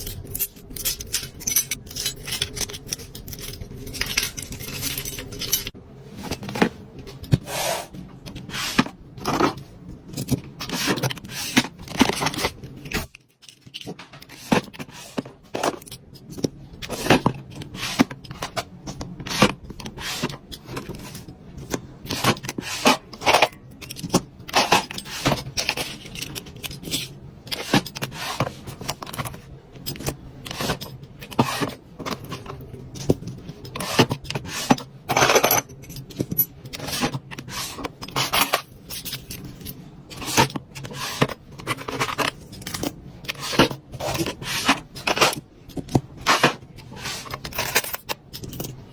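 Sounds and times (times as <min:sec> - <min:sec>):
packaging clicks and scrapes: 0:00.0 - 0:48.9.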